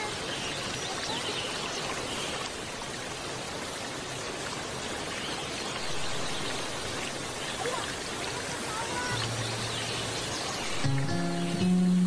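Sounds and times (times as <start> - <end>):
water rushing in a rocky stream: 0.0 - 12.0.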